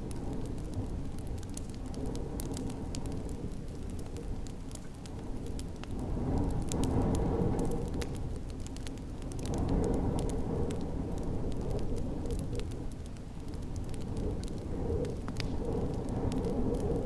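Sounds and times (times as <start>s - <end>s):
low rushing wind: 0.0s - 17.0s
wood fire crackling and popping: 0.0s - 17.0s.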